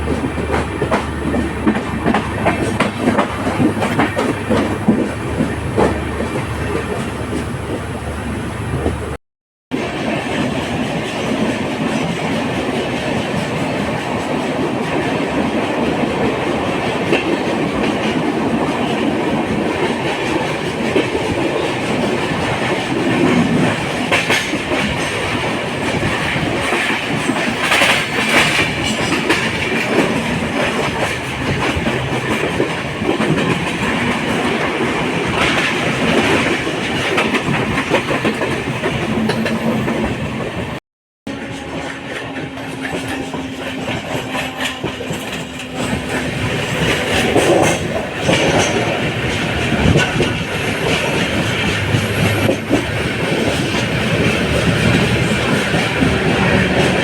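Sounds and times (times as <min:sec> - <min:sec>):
train clattering: 0:00.0 - 0:09.2, 0:09.8 - 0:57.0
clickety-clack of rail joints: 0:00.0 - 0:57.0
train wheels rumbling on rails: 0:00.0 - 0:57.0.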